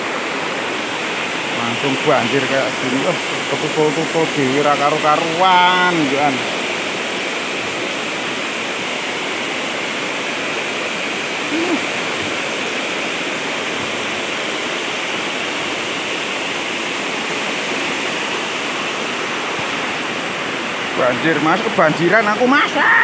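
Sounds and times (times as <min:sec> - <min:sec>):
heavy rain on water: 0:00.0 - 0:23.0
river rushing over boulders: 0:00.0 - 0:23.0.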